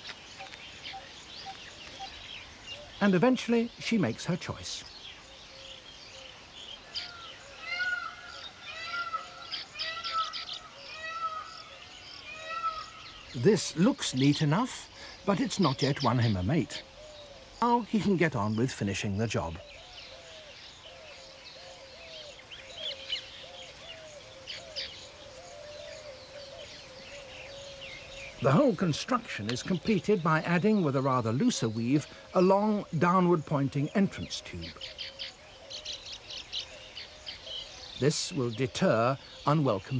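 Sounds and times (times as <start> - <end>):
birds chirping: 0.0 - 39.9
high bird twittering: 0.0 - 39.9.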